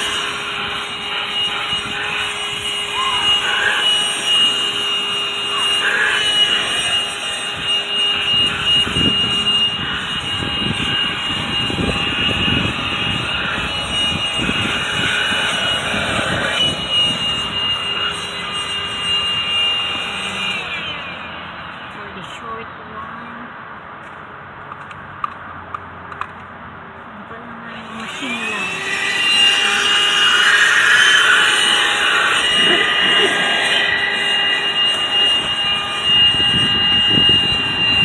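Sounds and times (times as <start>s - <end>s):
handheld vacuum cleaner whine: 0.0s - 22.4s, 27.6s - 38.0s.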